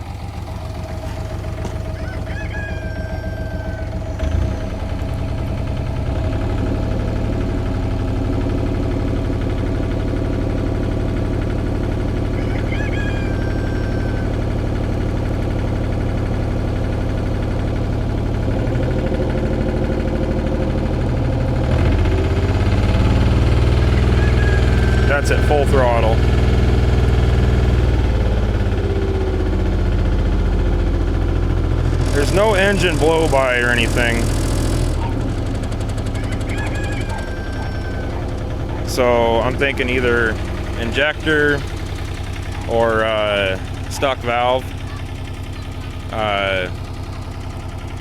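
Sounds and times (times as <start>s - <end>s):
diesel excavator engine revving: 0.0s - 48.0s.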